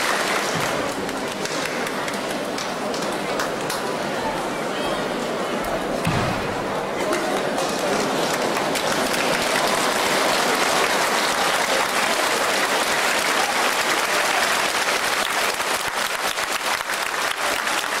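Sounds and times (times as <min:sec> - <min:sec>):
audience applauding: 0:00.0 - 0:03.9, 0:06.8 - 0:18.0.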